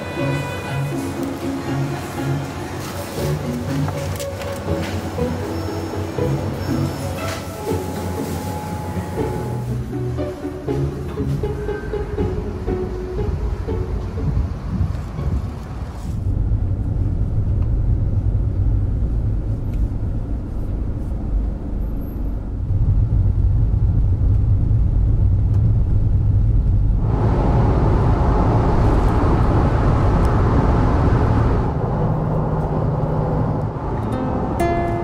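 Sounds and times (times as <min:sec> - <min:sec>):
car engine and road rumble: 0:00.0 - 0:35.0
rushing noise: 0:00.0 - 0:35.0.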